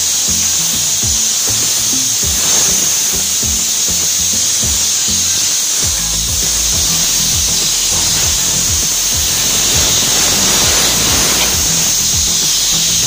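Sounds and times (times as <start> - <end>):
background music with steady beat: 0.0 - 13.0
compressed air hissing from valve: 0.0 - 13.0.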